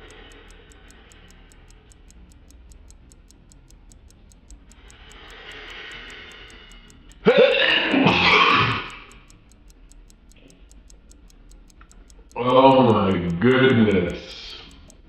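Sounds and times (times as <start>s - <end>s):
fast high ticking: 0.0s - 15.0s.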